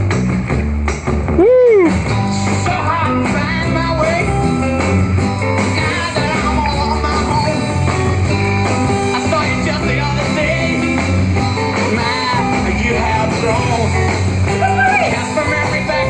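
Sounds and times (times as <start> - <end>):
rock and roll song: 0.0 - 16.0.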